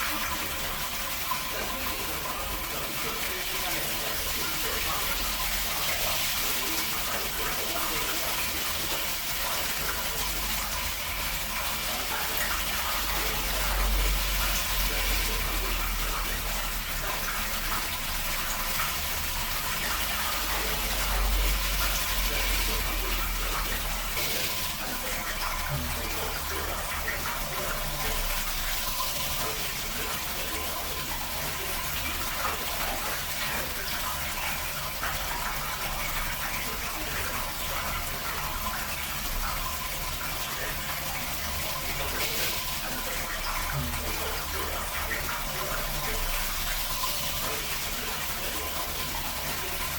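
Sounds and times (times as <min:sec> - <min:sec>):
tap water running and splashing: 0:00.0 - 0:49.9.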